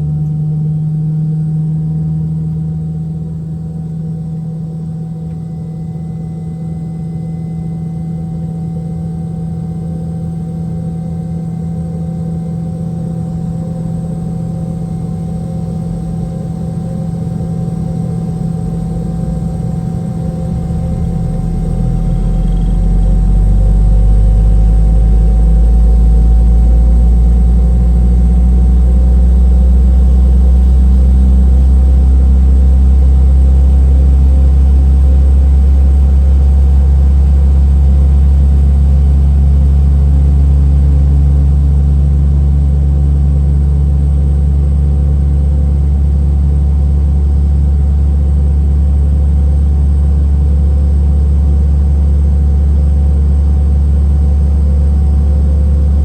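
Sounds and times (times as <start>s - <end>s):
jet engines rumbling in cabin: 0.0s - 46.4s.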